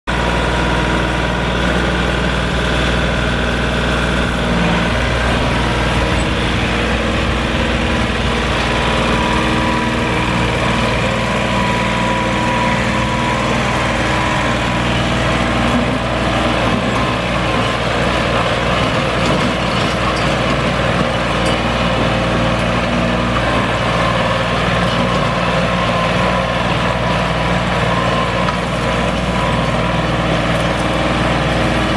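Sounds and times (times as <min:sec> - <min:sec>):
tractor diesel engine under load: 0:00.1 - 0:31.9
blade dragging over dirt: 0:00.2 - 0:31.9.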